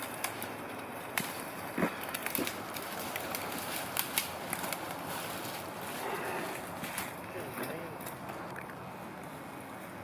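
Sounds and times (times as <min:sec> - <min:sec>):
twigs snapping and crackling: 0:00.0 - 0:08.8.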